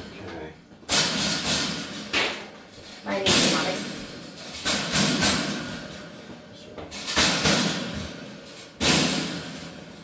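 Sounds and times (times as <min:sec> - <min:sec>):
metal cage rattling: 0:00.9 - 0:06.2, 0:06.9 - 0:10.0.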